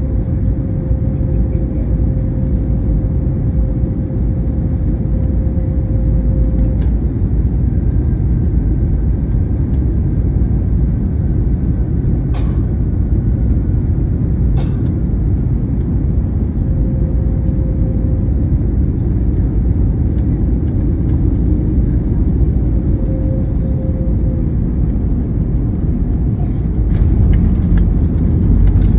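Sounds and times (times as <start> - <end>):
airplane cabin engine rumble: 0.0 - 28.9.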